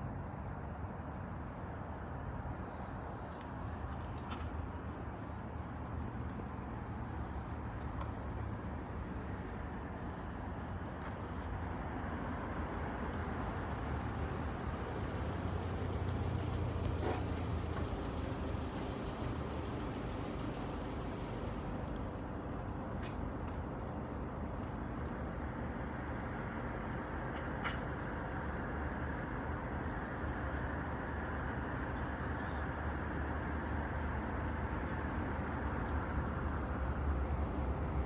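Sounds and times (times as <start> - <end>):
road traffic rumbling: 0.0 - 38.0.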